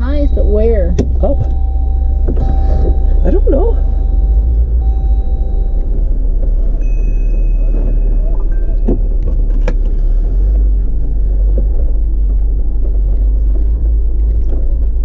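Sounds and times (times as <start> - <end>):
vehicle interior low rumble: 0.0 - 15.0
rattles and knocks: 0.4 - 15.0.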